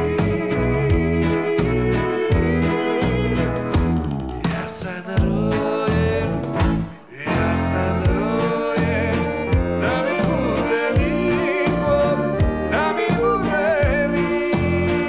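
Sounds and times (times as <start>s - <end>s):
live band playing pop song: 0.0s - 15.0s
man singing: 0.0s - 15.0s.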